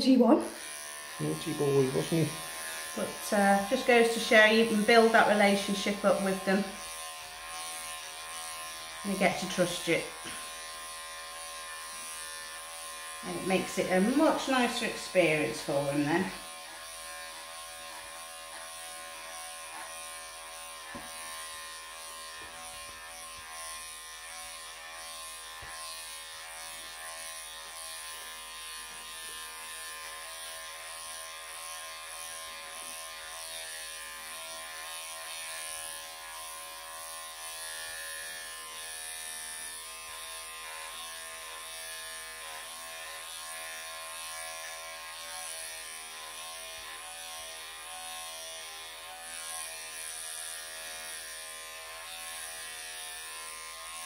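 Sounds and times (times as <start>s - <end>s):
electric clippers buzzing: 0.0s - 54.0s.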